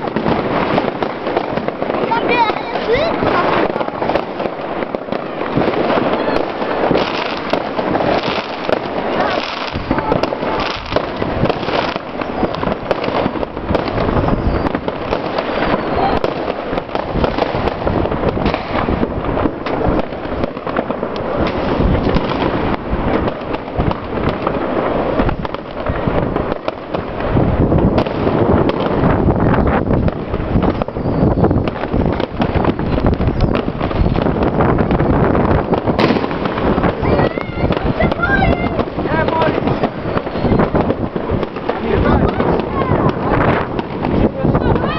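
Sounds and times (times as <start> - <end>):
deep firework booms: 0.0 - 44.9
firecrackers crackling: 0.0 - 44.9.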